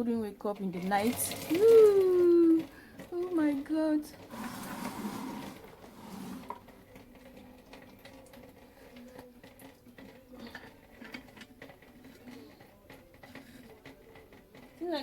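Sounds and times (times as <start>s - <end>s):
faint clicks and knocks: 0.0s - 15.0s.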